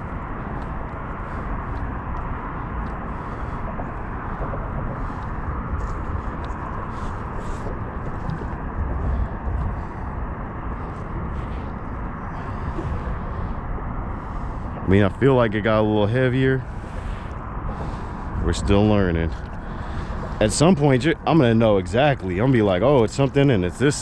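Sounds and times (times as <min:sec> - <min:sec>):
outdoor background rumble: 0:00.0 - 0:24.0.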